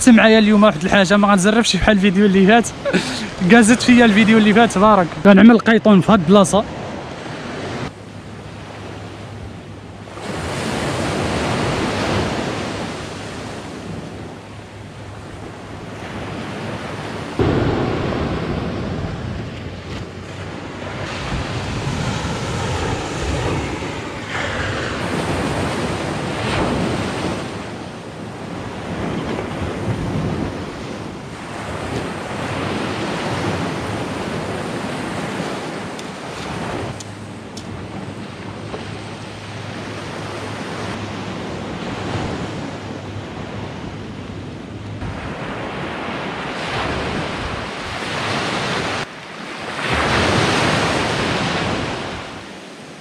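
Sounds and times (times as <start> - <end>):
surf breaking on shore: 0.0 - 7.9, 10.0 - 44.2, 45.0 - 53.0
wind buffeting microphone: 0.0 - 49.1.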